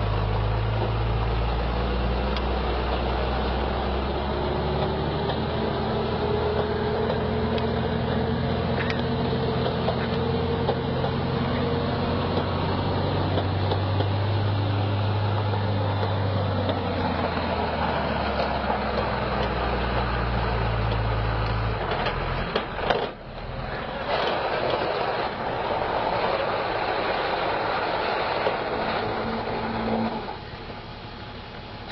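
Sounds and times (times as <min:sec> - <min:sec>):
heavy truck engine running: 0:00.0 - 0:31.9
vehicle noise: 0:00.0 - 0:31.9.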